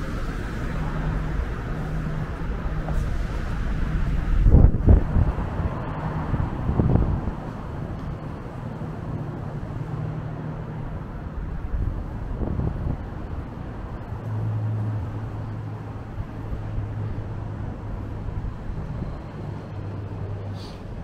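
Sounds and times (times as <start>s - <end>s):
vehicle engines humming: 0.0s - 21.0s.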